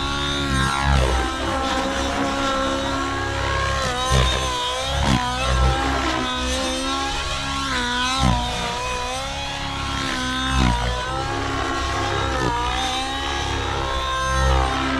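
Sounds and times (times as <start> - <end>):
rc helicopter engine whine: 0.0 - 14.9.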